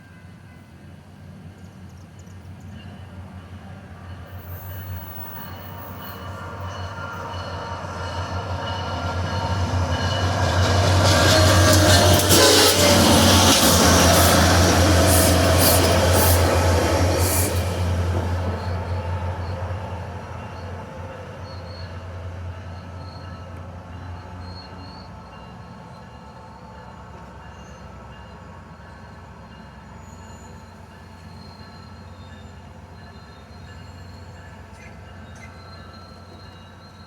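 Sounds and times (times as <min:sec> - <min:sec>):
rail noise: 0:00.0 - 0:37.0
diesel train engine drone: 0:00.2 - 0:37.0
wheels squealing on rails: 0:02.2 - 0:37.0.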